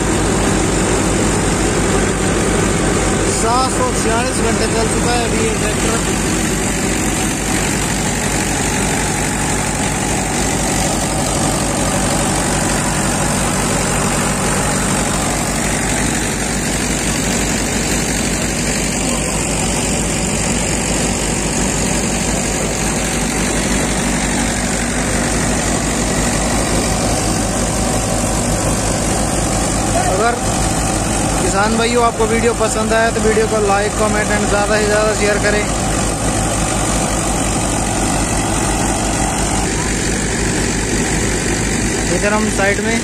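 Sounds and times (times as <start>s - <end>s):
thresher running: 0.0s - 43.0s
tractor diesel engine running: 0.0s - 43.0s.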